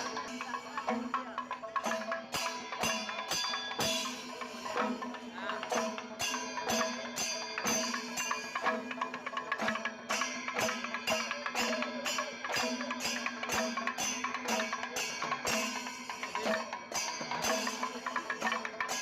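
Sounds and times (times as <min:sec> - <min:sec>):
struck percussion notes: 0:00.0 - 0:19.0.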